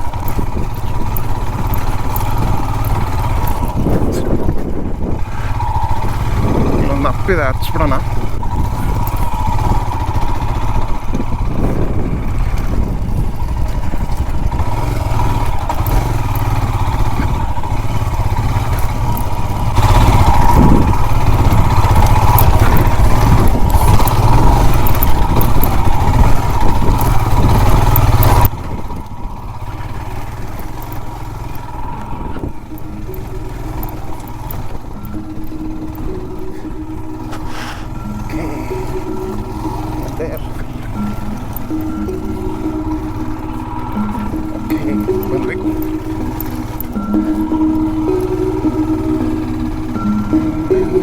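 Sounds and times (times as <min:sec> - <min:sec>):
motorcycle engine under load: 0:00.0 - 0:51.0.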